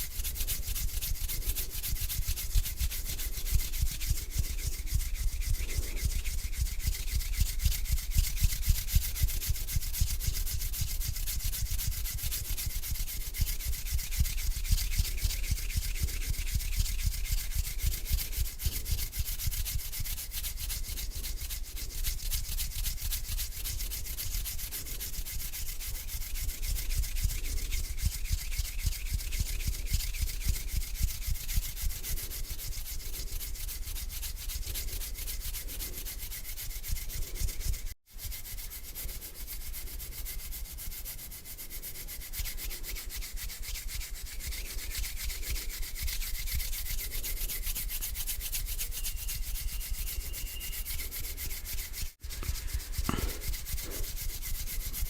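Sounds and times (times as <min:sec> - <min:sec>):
hands rubbing together: 0:00.0 - 0:55.0.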